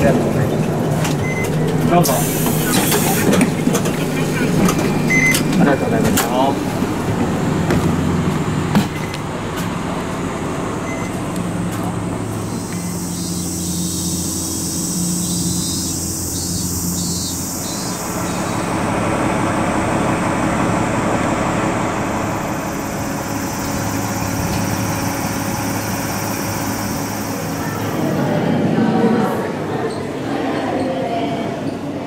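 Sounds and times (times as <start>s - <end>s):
bus engine humming: 0.0s - 29.7s
rush of vehicle noise: 0.0s - 29.8s.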